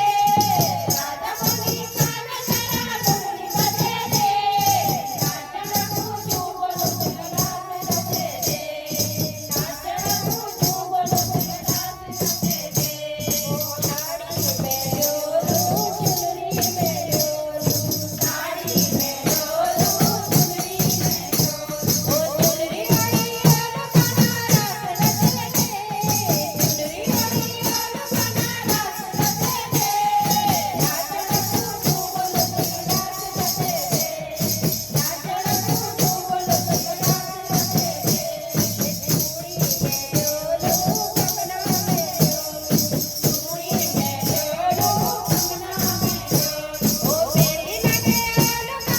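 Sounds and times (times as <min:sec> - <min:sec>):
person singing devotional song: 0:00.0 - 0:48.9
rattling percussion: 0:00.0 - 0:48.9.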